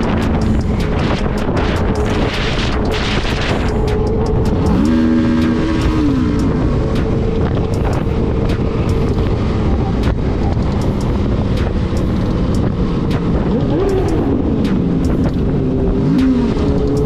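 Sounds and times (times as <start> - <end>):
engine tone climbing and falling: 0.0 - 17.0
motorcycle running: 0.0 - 17.0
wind buffeting microphone: 0.0 - 17.0.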